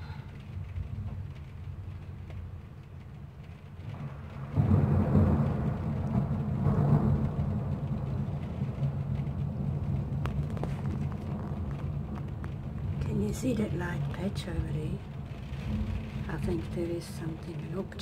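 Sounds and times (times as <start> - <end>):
thunder crack and rumble: 0.0 - 18.0.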